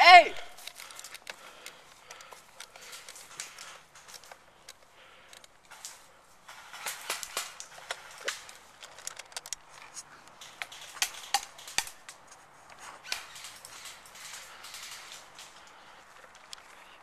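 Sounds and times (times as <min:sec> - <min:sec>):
sharp irregular clicks and snaps: 0:00.6 - 0:16.8.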